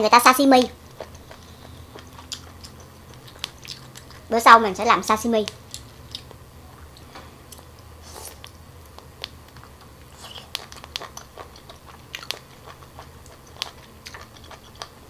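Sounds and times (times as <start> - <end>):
biting and chewing: 0.7 - 4.3, 5.5 - 15.0.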